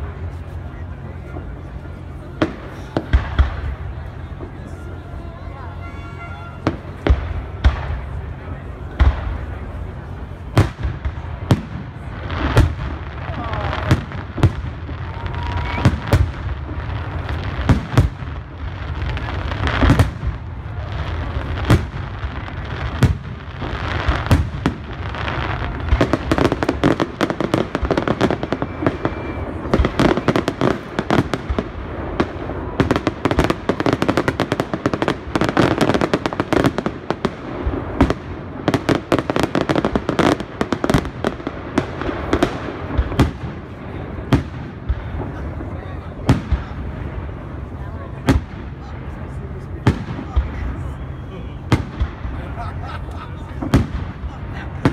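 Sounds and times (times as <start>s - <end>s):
fireworks bangs and cracks: 0.0s - 54.9s.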